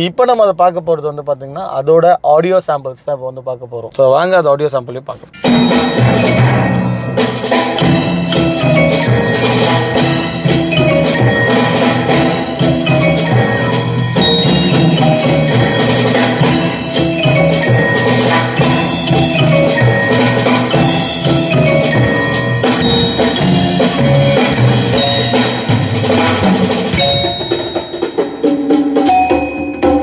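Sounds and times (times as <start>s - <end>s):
mallet percussion and drums music: 5.3s - 30.0s.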